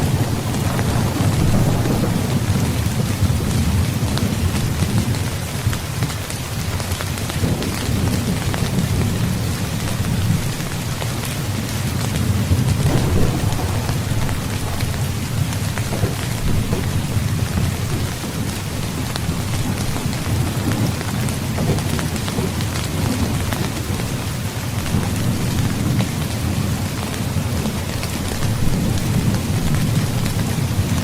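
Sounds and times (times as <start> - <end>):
low thunder rumbling: 0.0 - 6.1, 6.8 - 31.0
heavy rain falling: 0.0 - 31.0.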